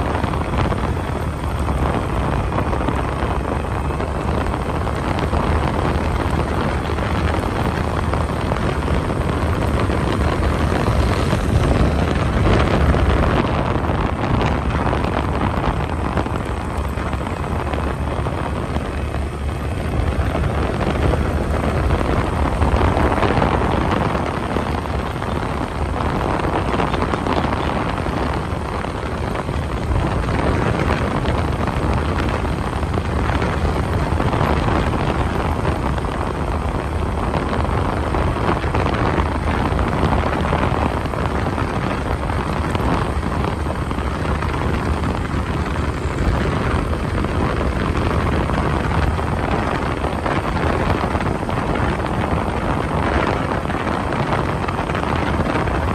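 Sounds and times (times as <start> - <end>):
tyres on concrete road: 0.0 - 55.9
wind rushing: 0.0 - 55.9.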